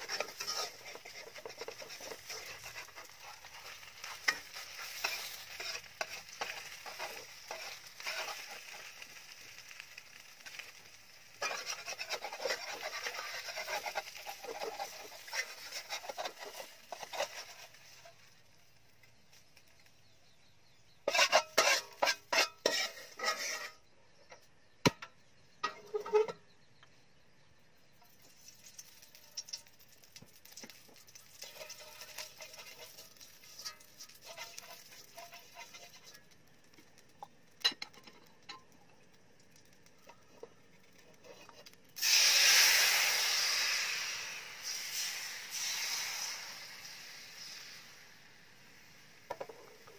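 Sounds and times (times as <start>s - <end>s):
utensil scraping metal wok: 0.0s - 18.4s, 19.0s - 24.4s, 25.6s - 26.6s, 28.0s - 36.4s, 40.0s - 48.1s, 48.7s - 49.9s
batter sizzling in hot wok: 0.0s - 23.9s, 24.6s - 49.9s.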